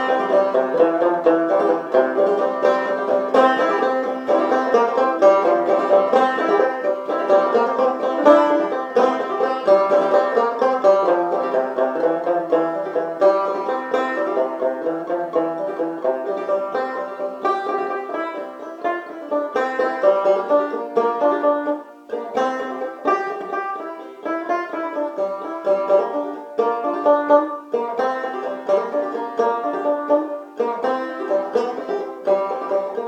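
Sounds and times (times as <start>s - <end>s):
banjo plucked waltz: 0.0s - 33.0s.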